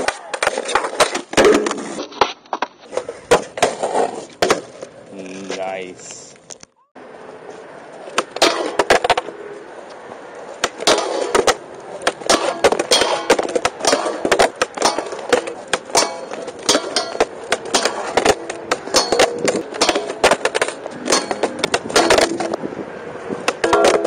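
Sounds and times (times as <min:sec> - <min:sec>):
skateboard truck grinding metal rail: 0:00.0 - 0:04.8, 0:08.0 - 0:09.6, 0:10.4 - 0:22.6, 0:23.2 - 0:24.0
skateboard clacking on rail and ground: 0:00.0 - 0:05.6, 0:07.9 - 0:22.6, 0:23.4 - 0:24.0
skateboard rolling on concrete: 0:00.0 - 0:24.0.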